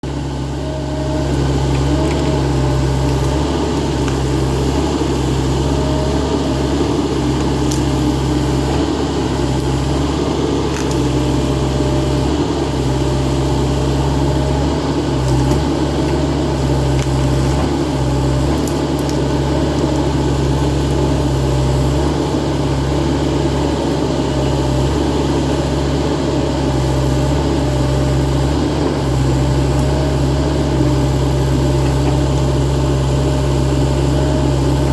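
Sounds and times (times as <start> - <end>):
excavator engine humming: 0.0 - 34.9.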